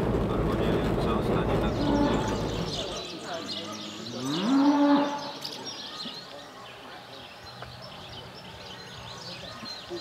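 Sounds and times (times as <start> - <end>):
small birds chirping: 1.6 - 10.0.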